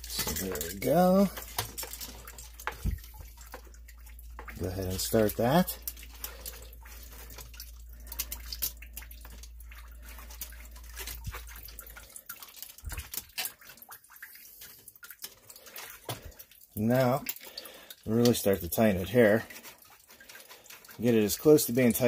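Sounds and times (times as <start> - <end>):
water dripping: 0.0 - 22.0.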